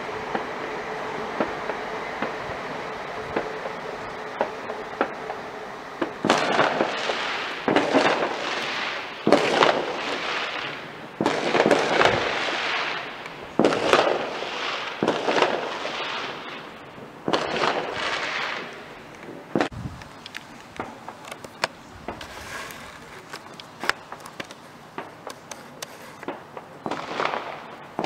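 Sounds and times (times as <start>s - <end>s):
fireworks bangs: 3.2s - 28.0s.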